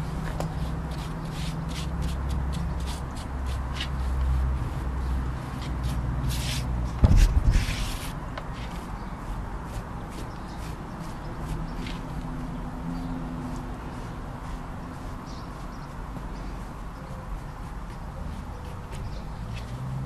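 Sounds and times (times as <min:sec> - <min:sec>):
leaves and plants rustling: 0:00.0 - 0:20.0.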